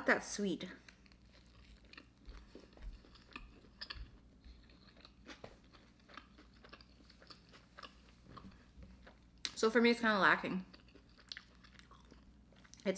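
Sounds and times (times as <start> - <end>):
person chewing with mouth closed: 0.8 - 9.6, 10.7 - 12.8.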